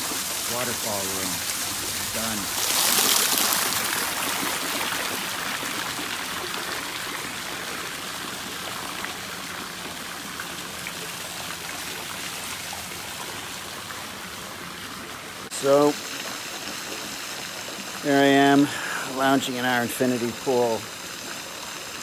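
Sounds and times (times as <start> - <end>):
water splashing into a pool: 0.0 - 22.0.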